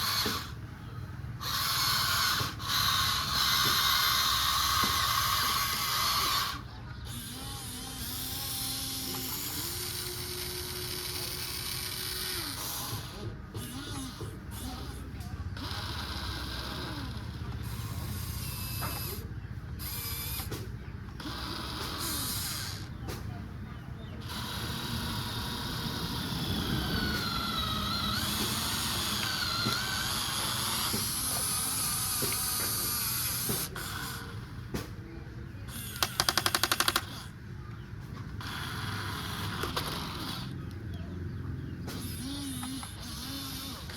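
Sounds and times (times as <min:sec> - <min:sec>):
small electric motor whine: 0:00.0 - 0:34.9, 0:35.6 - 0:43.9.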